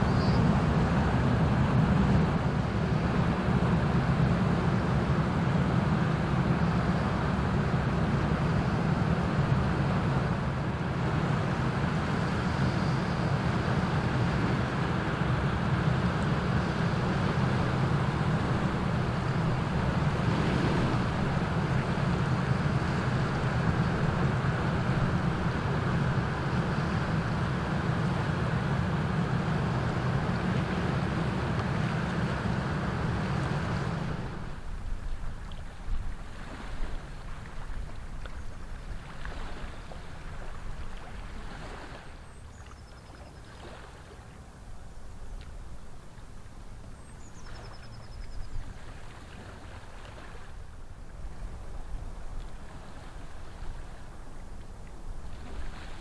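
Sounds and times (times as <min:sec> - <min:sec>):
water wash: 0:00.0 - 0:42.4, 0:43.4 - 0:56.0
boat diesel engine drone: 0:00.0 - 0:56.0.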